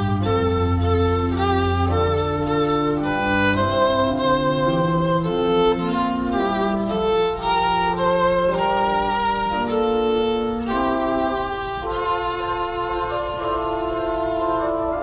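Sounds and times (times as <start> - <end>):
slow instrumental chords: 0.0 - 15.0.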